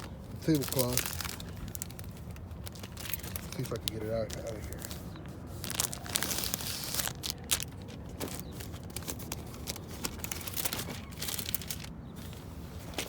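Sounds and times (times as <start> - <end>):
plastic crinkling and rustling: 0.0 - 13.0.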